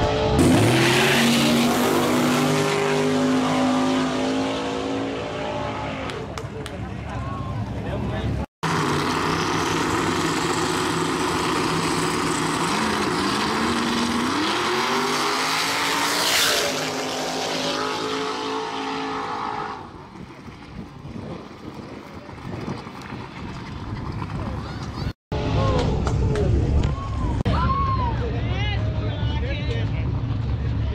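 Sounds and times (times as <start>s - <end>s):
drag racing car engines revving: 0.0s - 26.2s.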